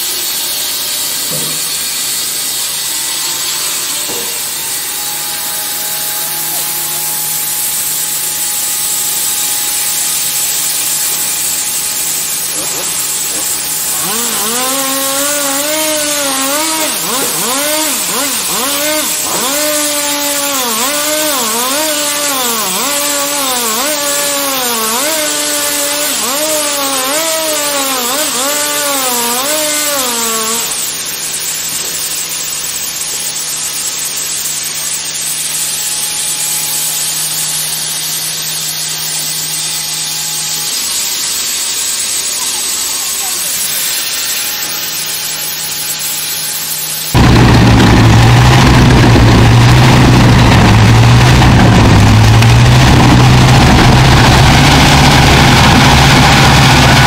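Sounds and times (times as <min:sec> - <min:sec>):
saw hissing through log: 0:00.0 - 0:33.7, 0:34.4 - 0:57.0
sawmill machine whine: 0:00.0 - 0:57.0.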